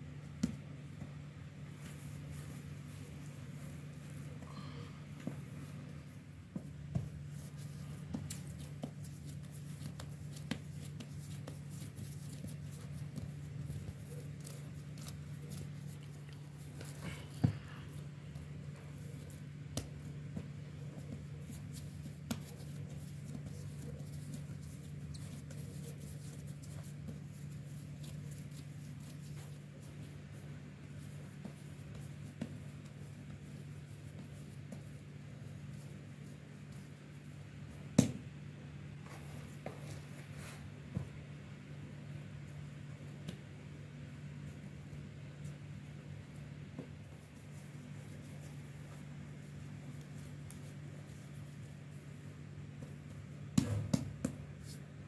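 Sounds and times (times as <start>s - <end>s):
hands rubbing and patting dough: 0.0s - 55.0s
steady low hum: 0.0s - 55.0s.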